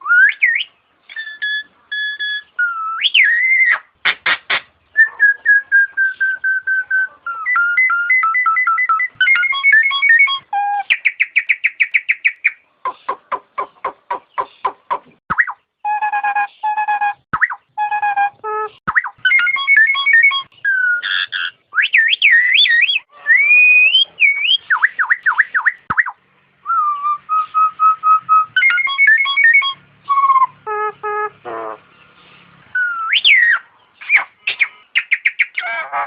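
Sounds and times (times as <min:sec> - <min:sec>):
myna whistling calls: 0:00.0 - 0:31.8, 0:32.8 - 0:36.0.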